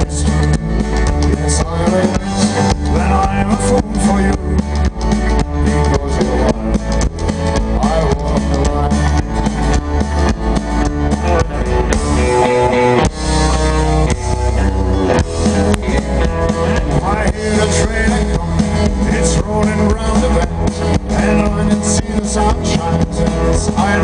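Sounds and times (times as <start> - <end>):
live country band over pa: 0.0 - 24.0.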